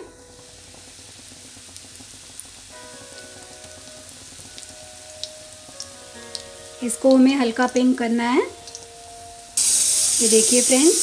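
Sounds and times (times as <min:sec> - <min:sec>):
bread deep-frying in oil: 0:00.0 - 0:11.0.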